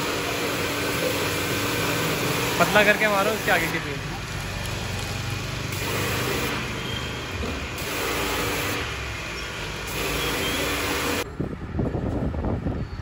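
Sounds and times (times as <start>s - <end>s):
pressure washer pump humming: 0.0s - 11.2s
water jet hissing: 0.0s - 11.2s.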